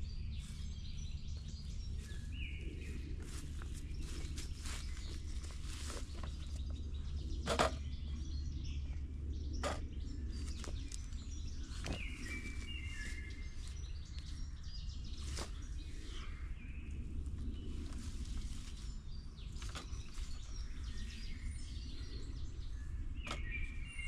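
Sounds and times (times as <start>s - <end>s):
bird chirps: 0.0s - 24.0s
low rumble: 0.0s - 24.0s.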